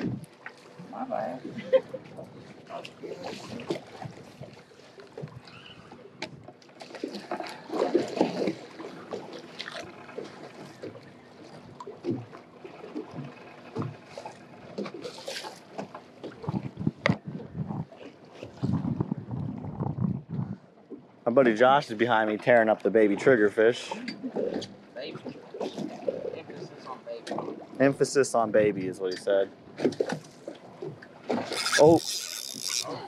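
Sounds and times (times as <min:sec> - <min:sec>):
water sloshing against boat hull: 0:00.0 - 0:33.0.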